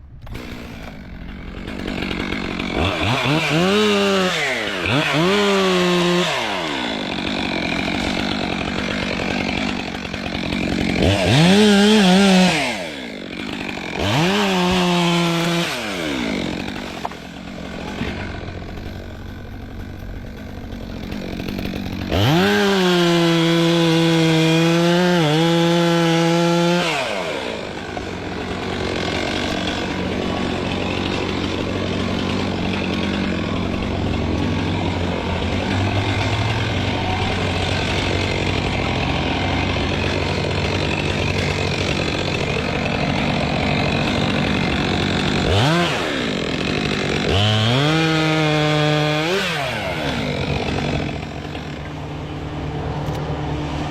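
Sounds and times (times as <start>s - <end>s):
chainsaw revving: 0.2s - 53.9s.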